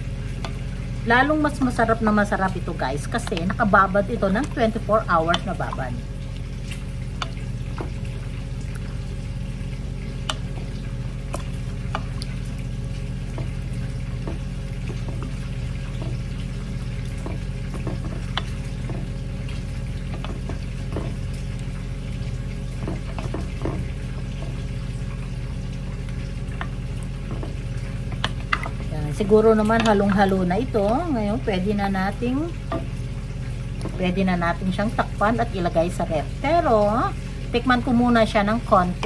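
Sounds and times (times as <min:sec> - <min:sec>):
wet squelching and sloshing: 0:00.0 - 0:34.7.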